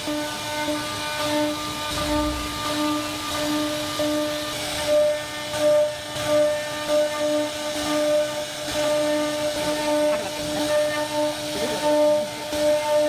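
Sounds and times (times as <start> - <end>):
bit cutting wood: 0.0 - 13.0
router spindle whine: 0.0 - 13.0.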